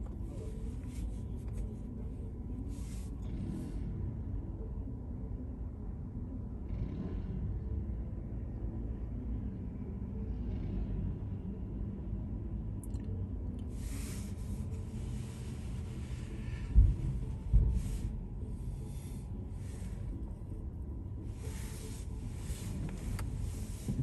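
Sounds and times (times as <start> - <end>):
car rumbling from inside cabin: 0.0 - 24.0.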